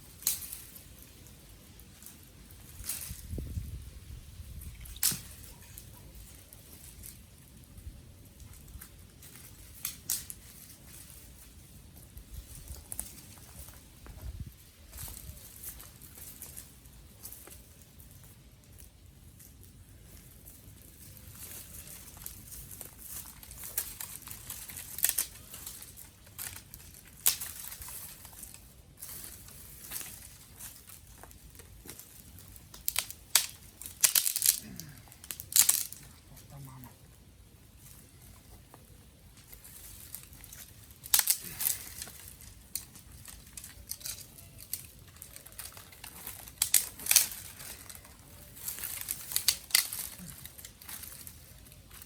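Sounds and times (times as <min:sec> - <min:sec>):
dry sticks crackling and snapping: 0:00.0 - 0:52.0.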